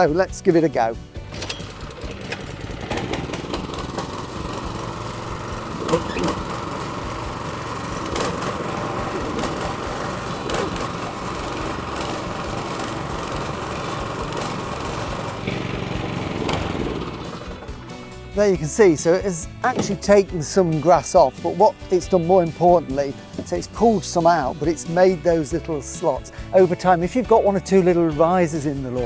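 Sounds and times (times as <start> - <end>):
lawn mower running: 0.0 - 28.9.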